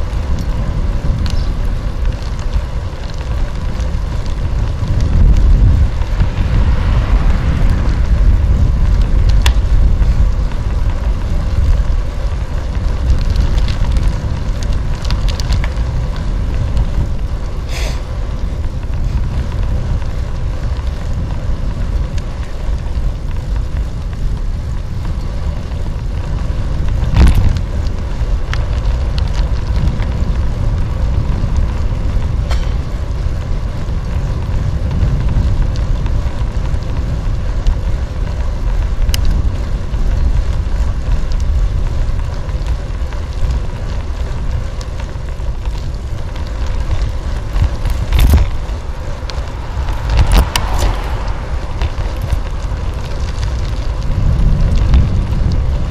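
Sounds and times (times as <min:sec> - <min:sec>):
road vibration noise: 0:00.0 - 0:55.9
wind buffeting microphone: 0:00.0 - 0:55.9.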